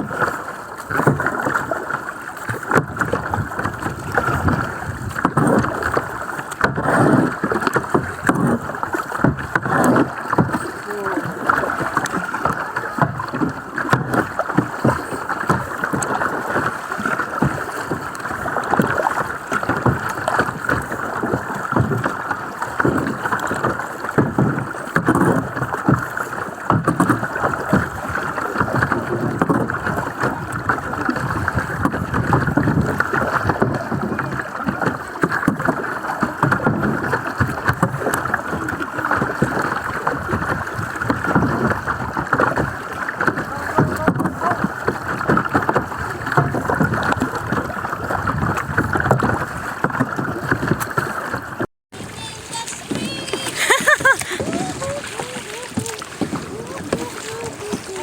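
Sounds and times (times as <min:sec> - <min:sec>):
water splashing around kayaks: 0:00.0 - 0:58.0.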